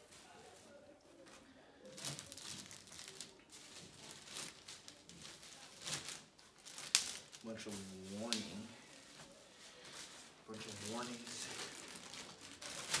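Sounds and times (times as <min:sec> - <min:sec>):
packaging crinkling and rustling: 0:01.9 - 0:13.0.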